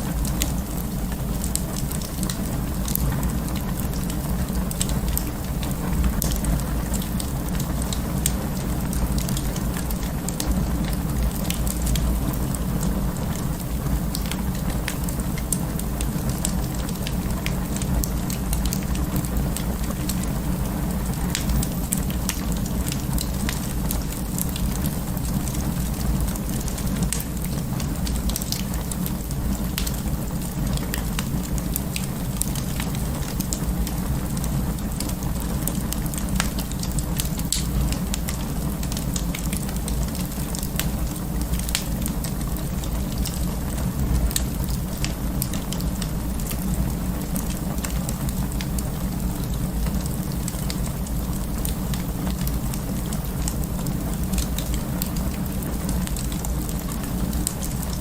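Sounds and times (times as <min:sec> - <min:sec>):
fire crackling and popping: 0:00.0 - 0:58.0
fire flames rumbling: 0:00.0 - 0:58.0.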